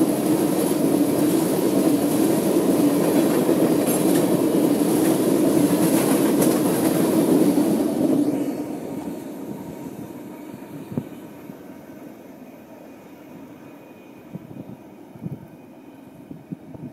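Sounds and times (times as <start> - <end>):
freight train rumbling past: 0.0 - 16.9.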